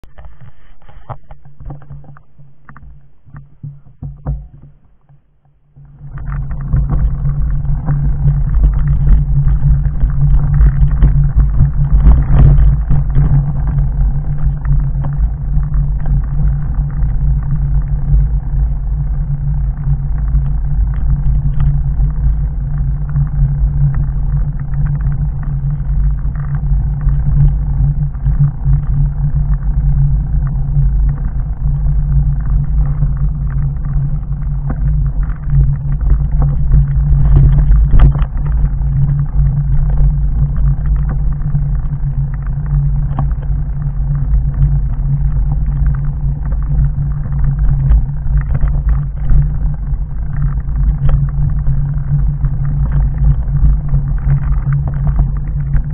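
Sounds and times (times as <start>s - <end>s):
bike rolling over gravel: 5.8s - 55.9s.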